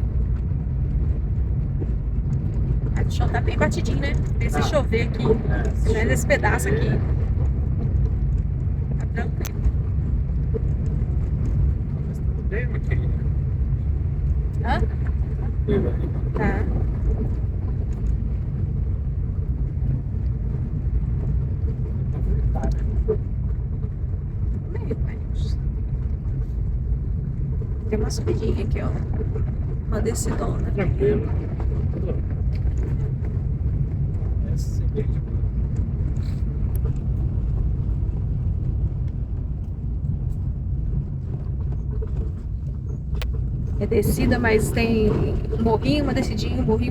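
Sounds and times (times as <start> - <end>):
car driving on dirt road: 0.0 - 46.9
low rumble of engine and tyres: 0.0 - 46.9.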